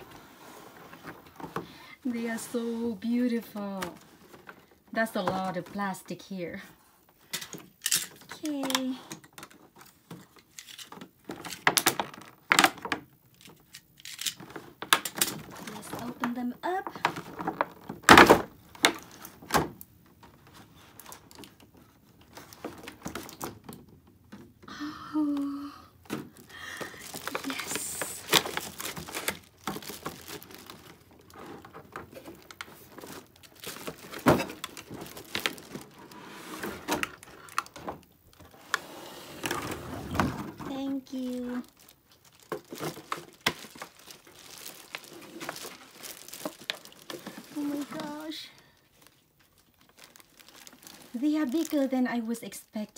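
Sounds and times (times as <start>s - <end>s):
plastic packaging crinkling: 7.2s - 24.4s, 26.1s - 38.8s, 40.4s - 52.9s.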